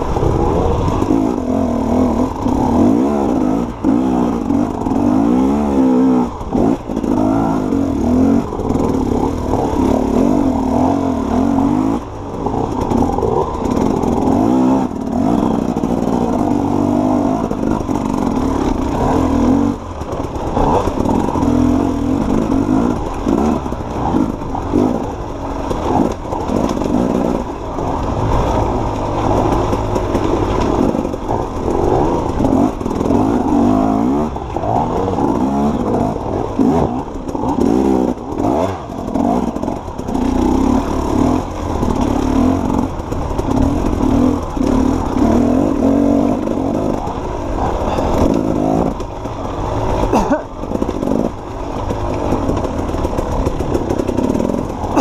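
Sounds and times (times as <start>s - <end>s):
bike rattling over rough ground: 0.0s - 55.0s
dirt bike engine revving: 0.0s - 55.0s.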